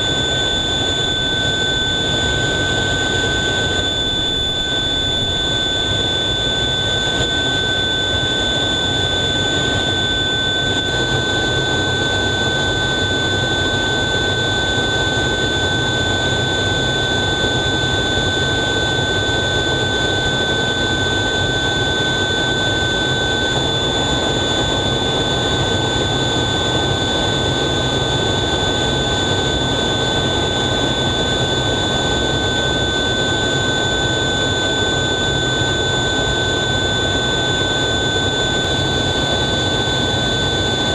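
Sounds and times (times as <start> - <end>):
high-pitched whine: 0.0 - 40.9
jet engine and airflow noise: 0.0 - 40.9.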